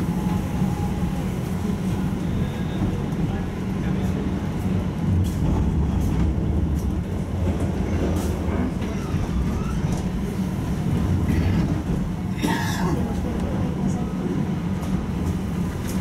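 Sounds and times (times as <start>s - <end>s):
tram rumble: 0.0s - 16.0s.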